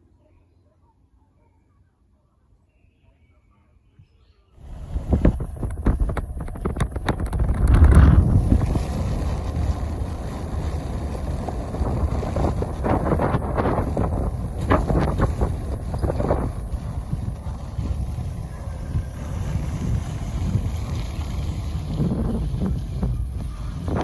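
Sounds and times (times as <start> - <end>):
wind buffeting microphone: 4.6 - 24.0.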